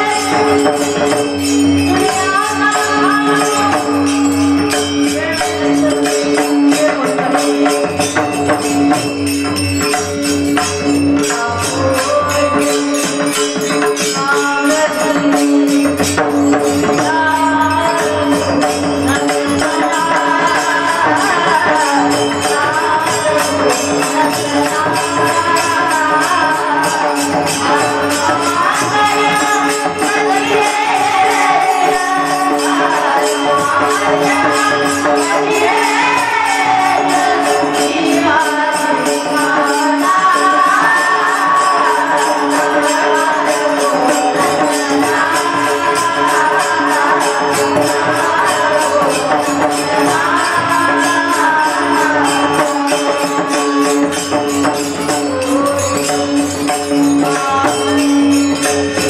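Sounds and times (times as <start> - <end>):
small hand cymbals clashing: 0.0 - 59.0
woman singing devotional song: 0.0 - 59.0.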